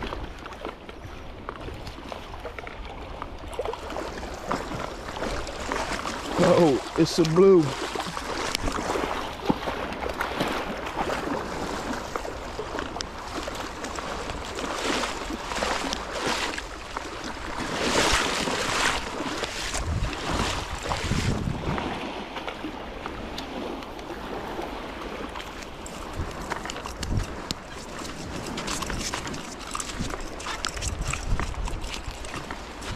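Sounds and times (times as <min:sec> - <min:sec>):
wind buffeting microphone: 0:00.0 - 0:32.9
shallow surf washing: 0:03.8 - 0:32.9.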